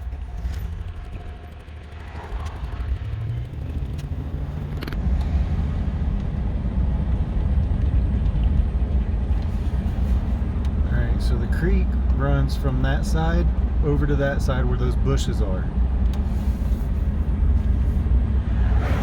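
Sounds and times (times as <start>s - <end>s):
truck engine and road rumble: 0.0s - 19.0s.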